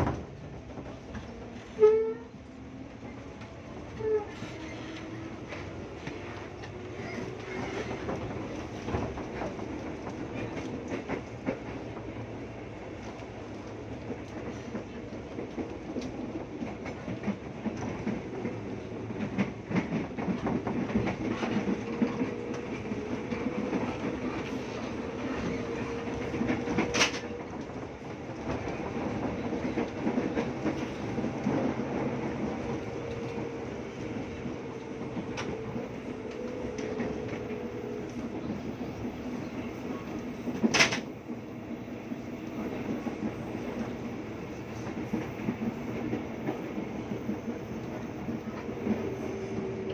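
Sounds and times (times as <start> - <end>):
train rumbling on rails: 0.0 - 49.9.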